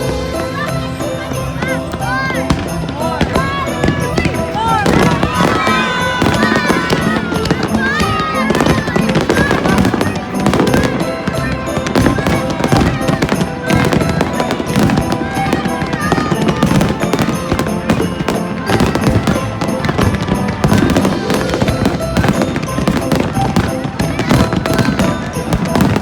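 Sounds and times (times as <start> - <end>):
fireworks bangs and crackles: 0.0 - 26.0
music: 0.0 - 26.0
voices: 0.0 - 26.0.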